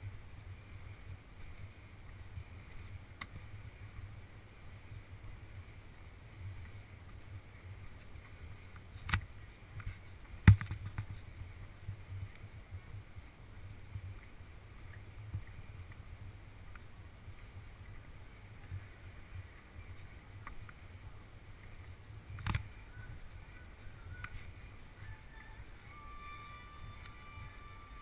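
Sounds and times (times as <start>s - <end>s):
road noise rumble: 0.0s - 28.0s.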